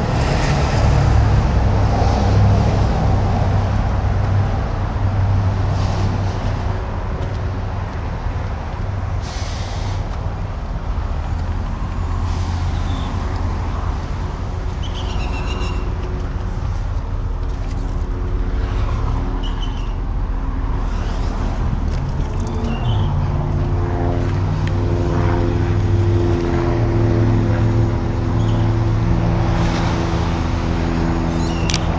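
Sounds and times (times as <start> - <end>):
low vehicle rumble: 0.0 - 31.9.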